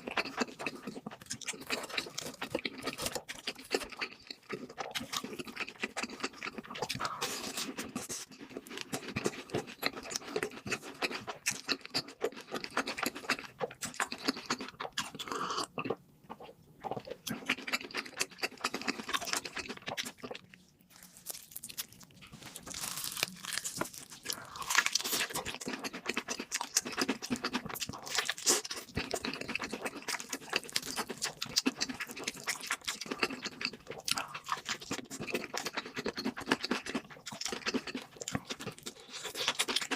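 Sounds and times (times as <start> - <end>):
chewing crispy fried food: 0.0 - 39.9.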